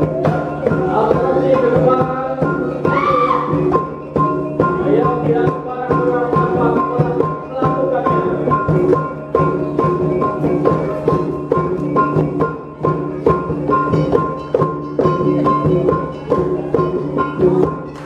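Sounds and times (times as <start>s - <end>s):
drums: 0.0s - 18.0s.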